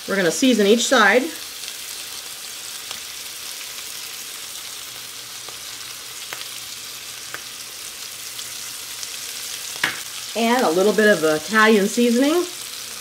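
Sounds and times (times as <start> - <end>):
chicken sizzling in butter: 0.0 - 13.0.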